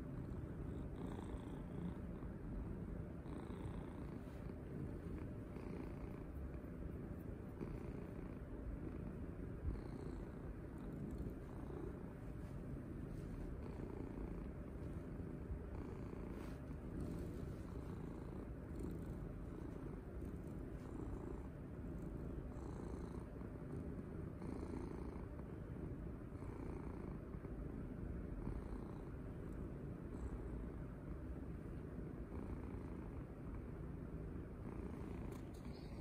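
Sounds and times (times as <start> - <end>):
cat purring loudly: 0.0 - 36.0.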